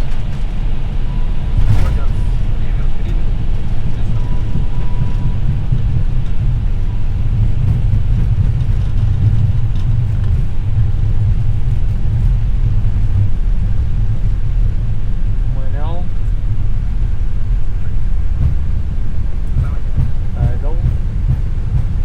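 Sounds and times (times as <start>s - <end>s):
jet engines in reverse thrust: 0.0s - 22.0s
wheels rumbling on runway: 0.0s - 22.0s.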